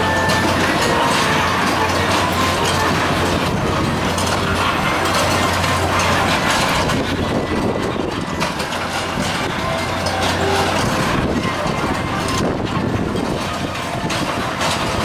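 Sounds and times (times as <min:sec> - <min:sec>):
constant low hum: 0:00.0 - 0:15.0
kiddie ride clatter: 0:00.0 - 0:15.0.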